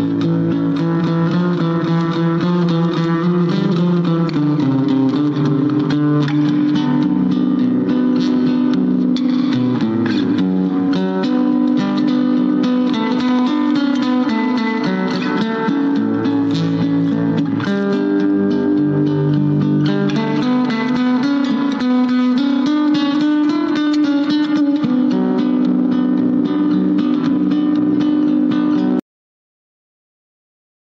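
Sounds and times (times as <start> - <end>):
plucked instrumental music: 0.0 - 29.0.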